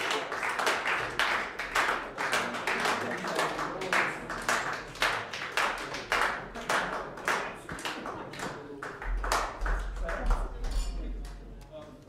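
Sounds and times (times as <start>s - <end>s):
people clapping in rhythm: 0.0s - 11.5s.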